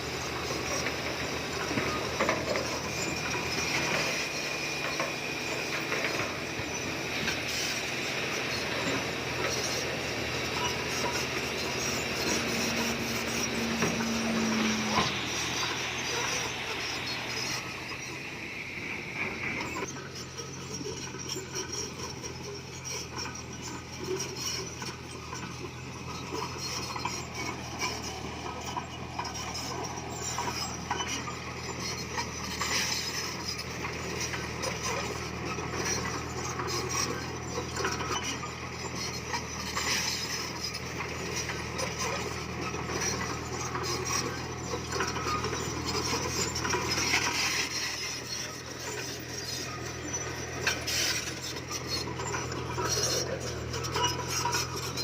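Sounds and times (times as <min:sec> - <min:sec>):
bulldozer diesel engine drone: 0:00.0 - 0:55.0
steel tracks clanking: 0:00.0 - 0:55.0.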